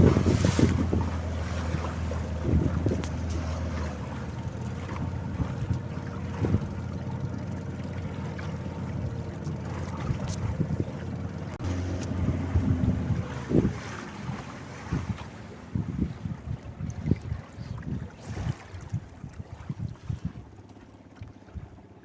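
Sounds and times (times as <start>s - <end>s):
wind buffeting microphone: 0.0s - 20.5s
boat engine running: 0.0s - 22.0s.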